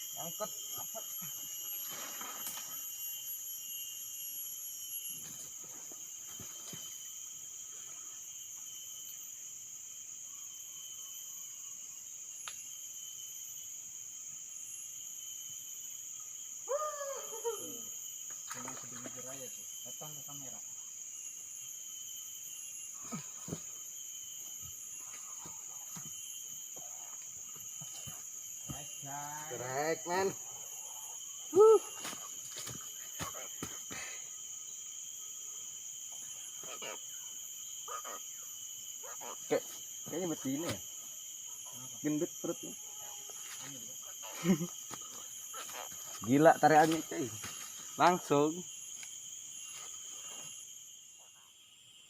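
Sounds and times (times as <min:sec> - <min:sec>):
insect chorus: 0:00.0 - 0:52.0.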